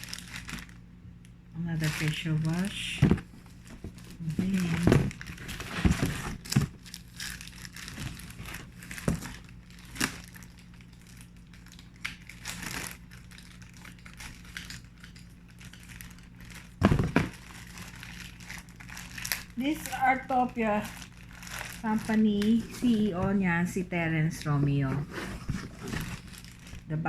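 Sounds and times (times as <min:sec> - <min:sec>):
packaging crinkling and rustling: 0:00.0 - 0:00.8, 0:01.7 - 0:26.9.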